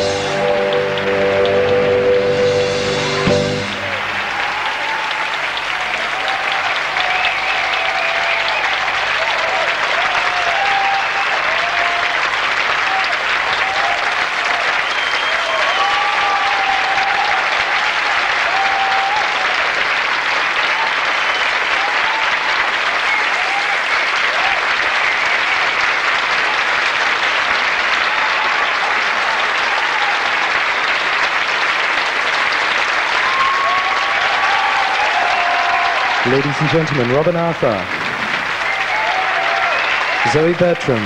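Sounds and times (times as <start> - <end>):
audience applauding: 0.0 - 41.0
audience cheering: 0.0 - 41.0.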